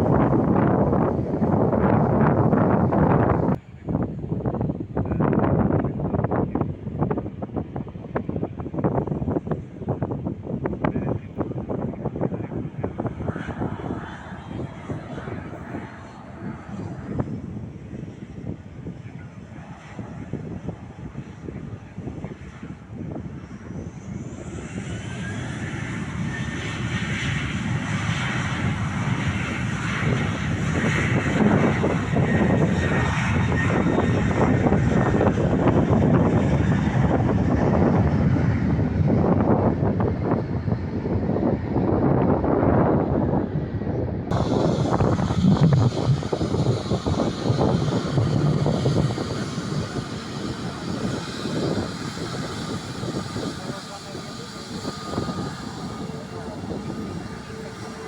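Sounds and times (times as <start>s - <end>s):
rising engine whine: 0.0s - 9.6s, 11.4s - 58.0s
aircraft engines approaching: 0.0s - 58.0s
wind buffeting microphone: 0.0s - 58.0s.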